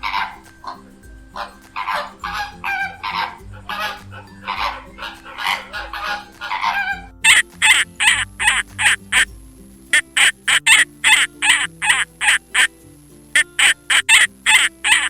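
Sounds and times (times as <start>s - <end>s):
light background music: 0.0s - 15.0s
goose honking: 1.4s - 9.3s, 10.0s - 12.7s, 13.4s - 15.0s.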